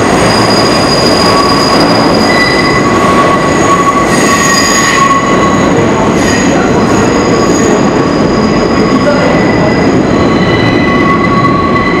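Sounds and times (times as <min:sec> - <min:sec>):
train cars rumbling on rails: 0:00.0 - 0:12.0
train wheels squealing: 0:00.0 - 0:12.0.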